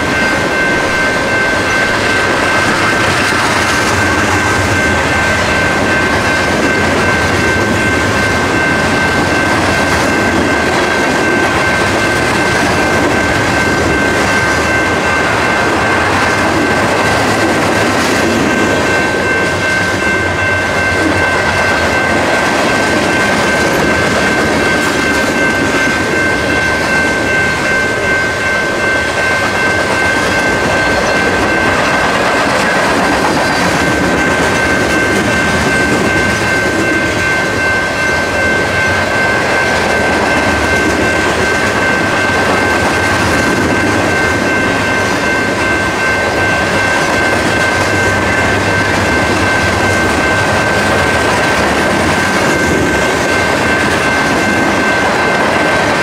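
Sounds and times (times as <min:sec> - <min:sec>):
high-pitched ringing: 0:00.0 - 0:56.0
train wheels rumbling on rail: 0:00.0 - 0:56.0.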